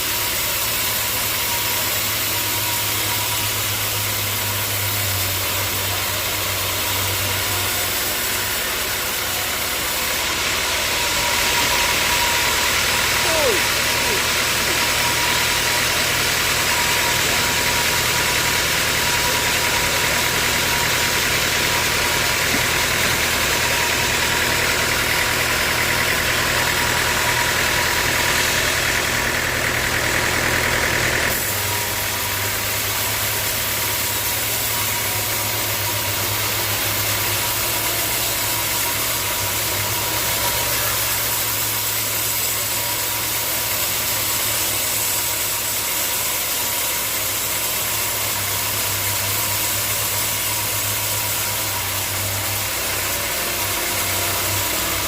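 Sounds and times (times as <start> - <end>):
sawmill saw whining: 0.0 - 55.0.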